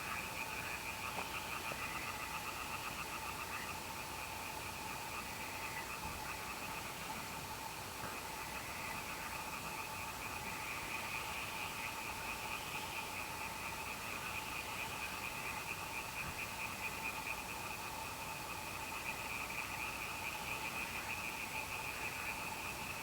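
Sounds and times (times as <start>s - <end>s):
frogs calling: 0.0s - 23.0s.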